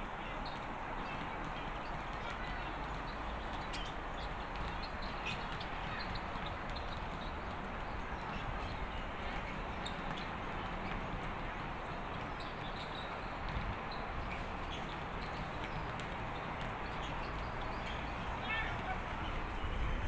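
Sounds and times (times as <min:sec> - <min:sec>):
distant traffic hum: 0:00.0 - 0:20.0.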